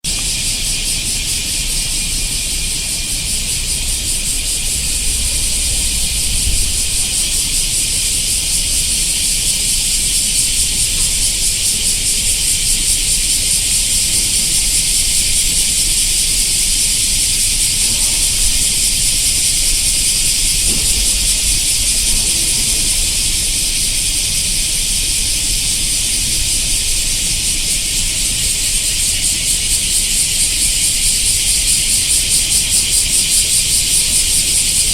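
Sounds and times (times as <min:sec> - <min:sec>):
cicadas buzzing: 0:00.0 - 0:34.9.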